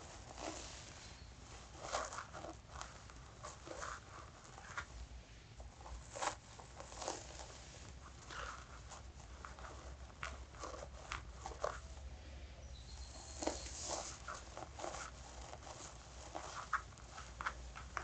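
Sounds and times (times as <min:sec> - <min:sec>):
fingernails scratching hair: 0:00.0 - 0:05.0, 0:05.6 - 0:12.0, 0:13.0 - 0:18.0.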